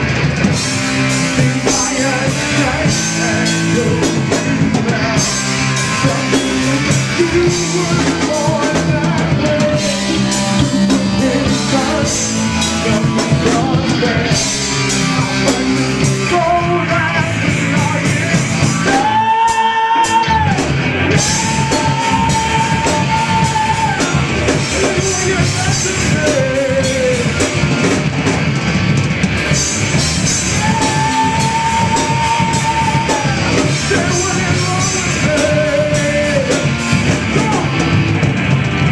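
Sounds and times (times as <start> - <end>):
drum kit: 0.0 - 38.9
electric guitars: 0.0 - 38.9
singer holding long notes: 1.2 - 27.7, 29.6 - 38.0.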